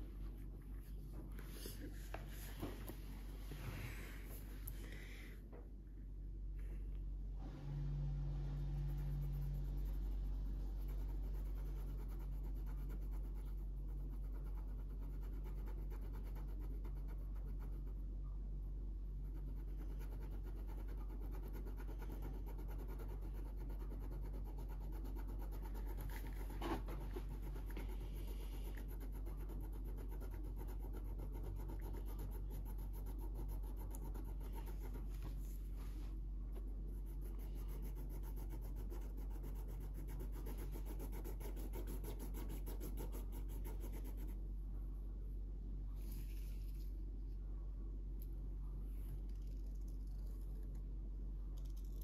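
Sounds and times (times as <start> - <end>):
low hum: 0.0 - 52.0.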